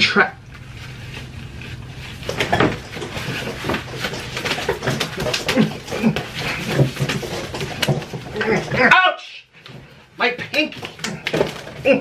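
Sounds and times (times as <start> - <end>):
slaps and scuffling: 0.5 - 12.0.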